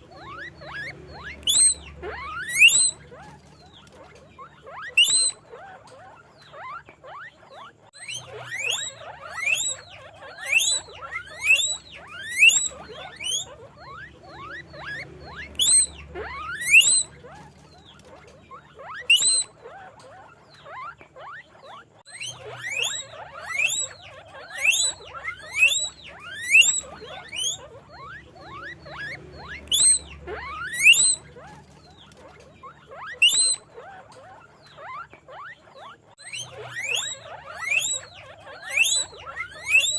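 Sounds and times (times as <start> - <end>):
faint chirps: 0.0 - 39.9
guinea pigs squeaking: 0.0 - 39.9.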